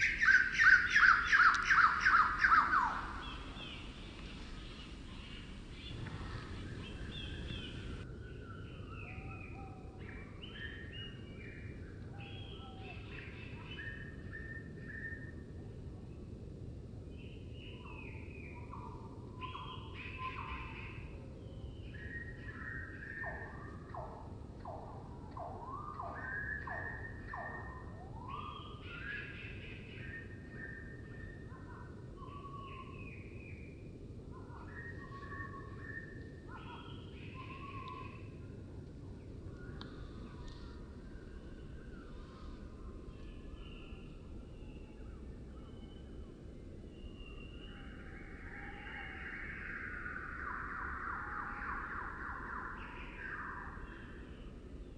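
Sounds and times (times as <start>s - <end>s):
slowed birdsong: 0.0s - 15.4s, 17.1s - 54.9s
low background noise: 0.0s - 54.9s.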